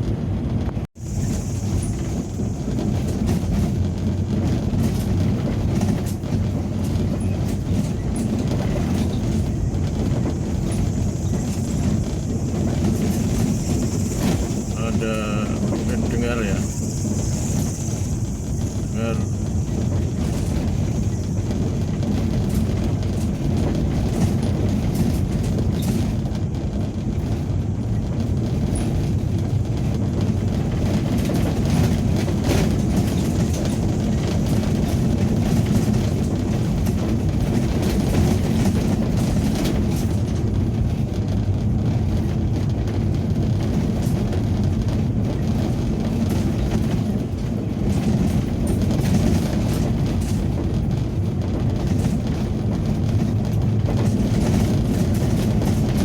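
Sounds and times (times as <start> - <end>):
road and engine rumble: 0.0 - 56.0
faint rattles and knocks: 0.1 - 56.0.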